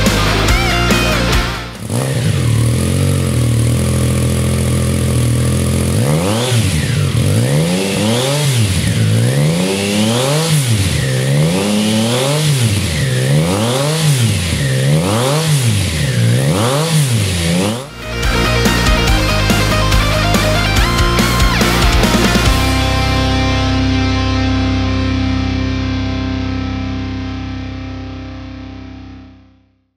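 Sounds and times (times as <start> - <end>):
motorcycle engine idling: 0.0 - 24.2
motorcycle engine revving: 0.0 - 25.8.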